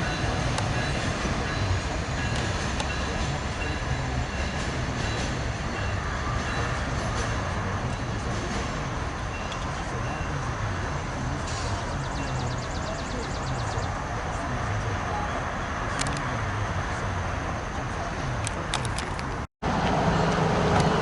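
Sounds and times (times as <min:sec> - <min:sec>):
train rumbling past: 0:00.0 - 0:18.4, 0:19.6 - 0:21.0.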